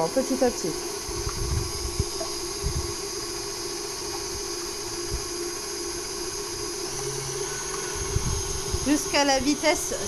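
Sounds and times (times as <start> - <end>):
stand mixer motor hum: 0.0 - 10.0
whisk whirring hiss: 0.0 - 10.0.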